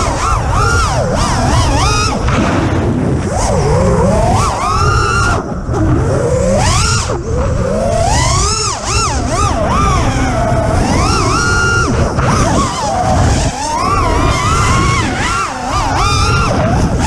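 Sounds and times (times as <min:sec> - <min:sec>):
drone motors whining: 0:00.0 - 0:17.0
wind rumble on microphone: 0:00.0 - 0:17.0.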